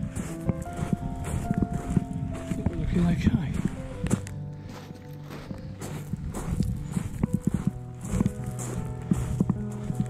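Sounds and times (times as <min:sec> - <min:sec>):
footsteps on wood chips: 0:00.0 - 0:10.0
music of long held notes: 0:00.0 - 0:10.0.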